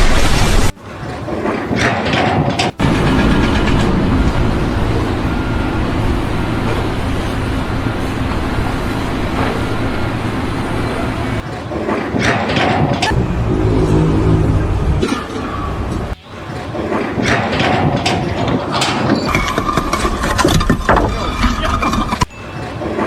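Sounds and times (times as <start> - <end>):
heavy vehicle engine rumbling: 0.0 - 22.9.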